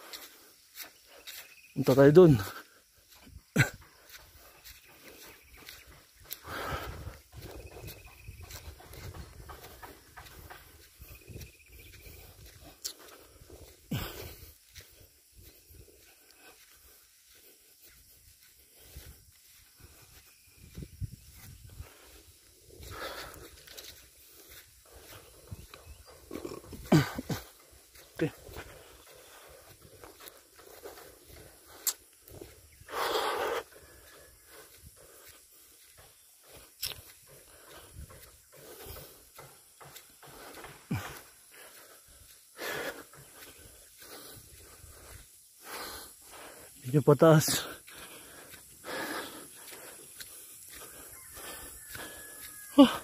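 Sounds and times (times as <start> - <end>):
person breathing hard: 0.0 - 1.6, 2.4 - 53.0
footsteps through grass: 0.0 - 53.0.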